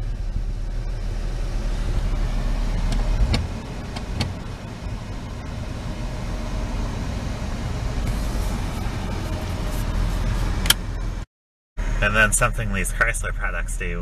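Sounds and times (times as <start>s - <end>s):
car engine idling: 0.0s - 11.2s, 11.8s - 14.0s.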